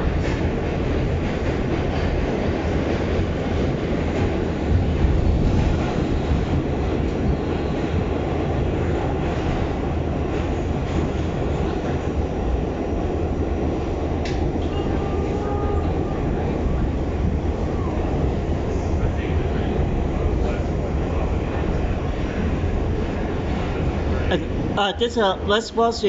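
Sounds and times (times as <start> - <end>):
subway train rumbling in tunnel: 0.0 - 26.0.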